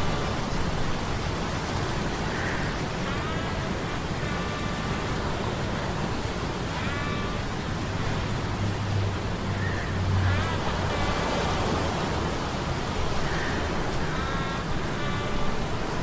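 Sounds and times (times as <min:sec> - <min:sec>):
rushing surf: 0:00.0 - 0:16.0.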